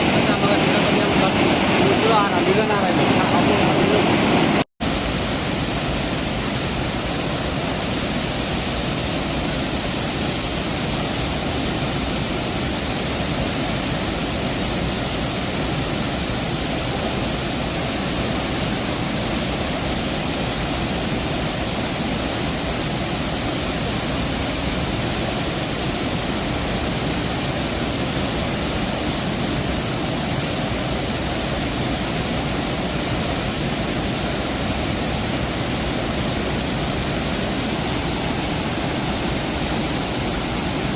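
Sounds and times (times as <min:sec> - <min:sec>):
water rushing through spillway: 0:00.0 - 0:40.9.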